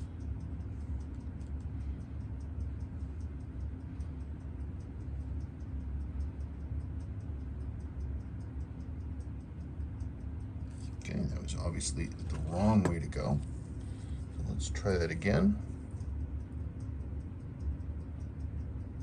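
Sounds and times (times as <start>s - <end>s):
rapid even ticking: 0.0s - 19.0s
steady low hum: 0.0s - 19.0s.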